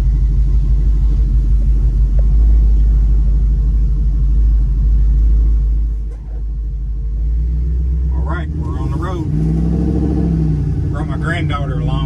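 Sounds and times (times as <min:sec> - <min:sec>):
truck engine running low revs: 0:00.0 - 0:12.0.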